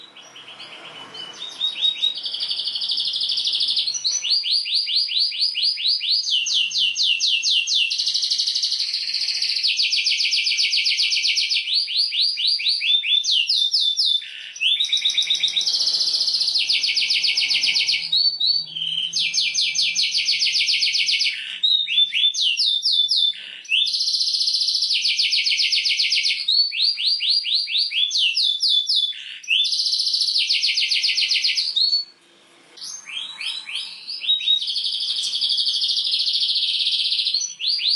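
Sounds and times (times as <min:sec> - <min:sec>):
canary singing trills: 0:00.0 - 0:32.2, 0:32.8 - 0:37.9.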